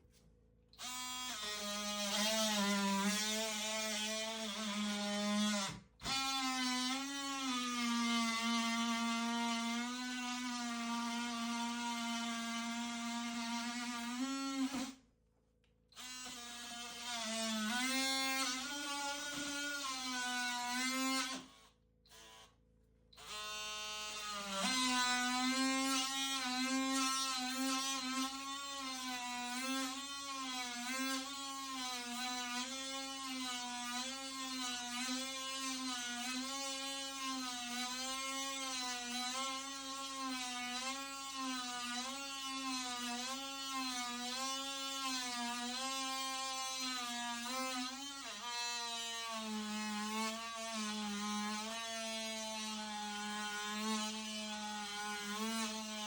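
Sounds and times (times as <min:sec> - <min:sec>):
small electric motor whining: 0:00.8 - 0:15.0, 0:16.0 - 0:22.6, 0:23.2 - 0:56.0.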